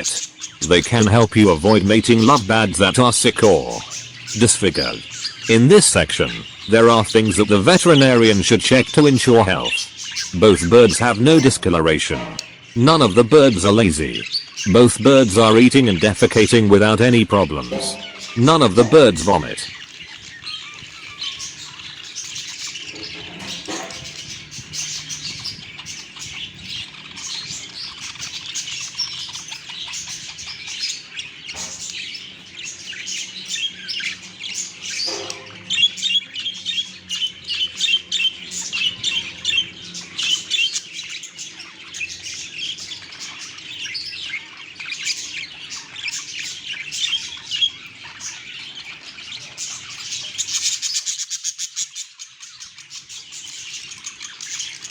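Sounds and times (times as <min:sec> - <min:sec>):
budgies chirping and chattering: 0:00.0 - 0:54.9
rapid bird warbling: 0:00.0 - 0:54.9.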